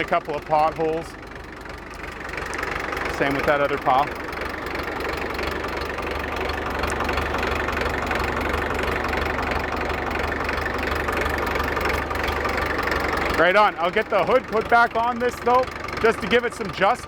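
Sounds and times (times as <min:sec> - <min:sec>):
bulldozer engine running: 0:00.0 - 0:17.0.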